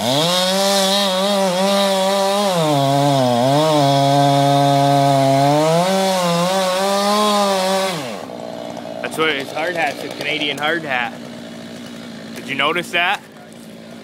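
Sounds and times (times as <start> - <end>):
chainsaw cutting tree trunk: 0.0 - 14.0.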